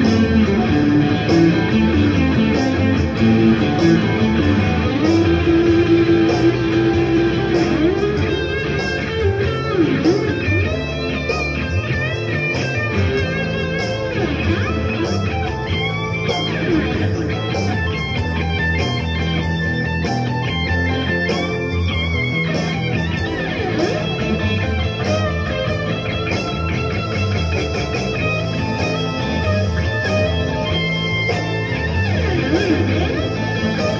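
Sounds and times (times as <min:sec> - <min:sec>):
backing music with steady beat: 0:00.0 - 0:33.9
electric guitar blues lead: 0:00.0 - 0:33.9.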